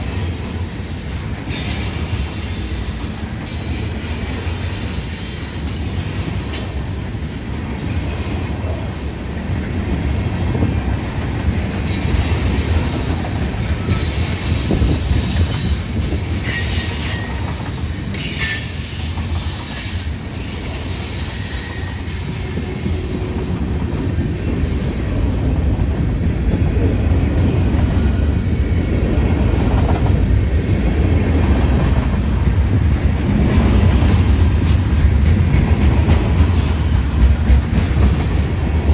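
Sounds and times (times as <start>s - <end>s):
freight train rumbling past: 0.0s - 38.9s
train wheels squealing: 0.0s - 38.9s.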